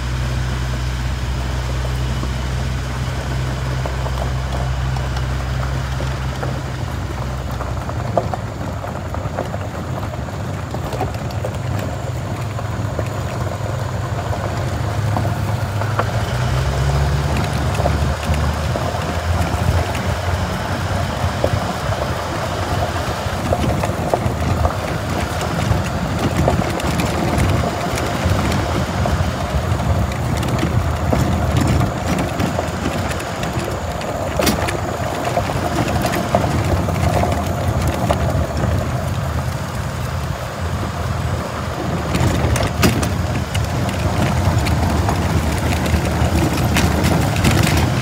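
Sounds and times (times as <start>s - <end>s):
diesel bus engine running: 0.0s - 48.0s
tyres on gravel: 0.0s - 48.0s.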